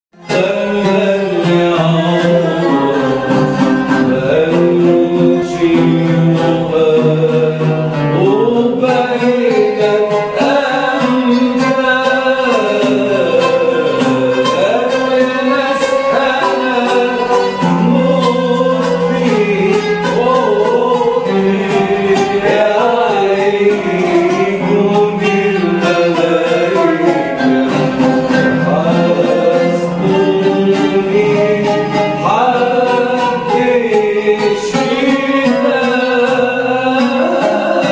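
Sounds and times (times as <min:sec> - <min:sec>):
plucked string instruments: 0:00.1 - 0:37.9
bowed violin: 0:00.2 - 0:37.9.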